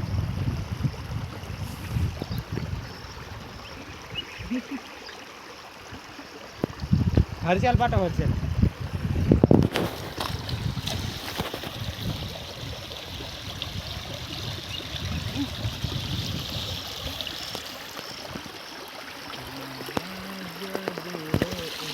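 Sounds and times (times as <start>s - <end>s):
water flowing in drain channel: 0.0s - 21.9s.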